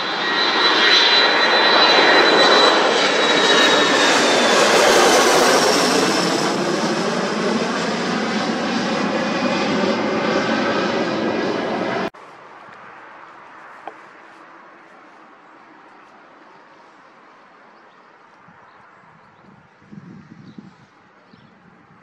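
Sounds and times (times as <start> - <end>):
high jet whine: 0.0 - 17.8
jet engines passing overhead: 0.0 - 22.0.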